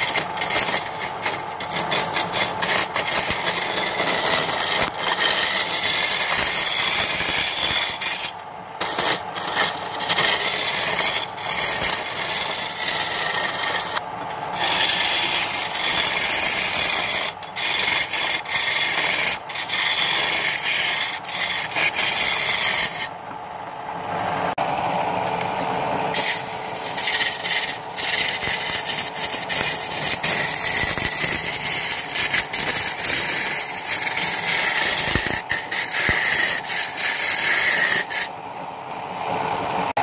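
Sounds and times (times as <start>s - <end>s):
lathe running: 0.0s - 40.0s
tool scraping spinning wood: 0.0s - 40.0s.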